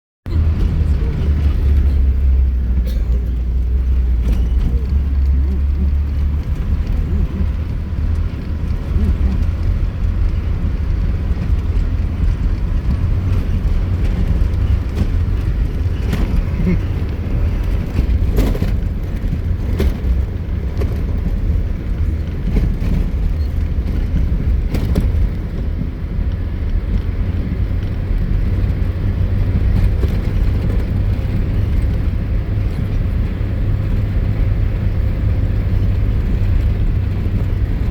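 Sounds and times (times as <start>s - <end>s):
vehicle driving off-road rumble: 0.2s - 37.9s.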